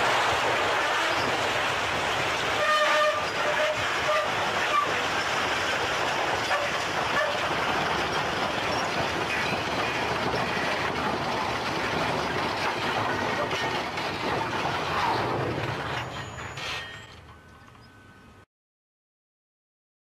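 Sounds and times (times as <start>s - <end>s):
wheels scraping on rail: 0.0s - 18.1s.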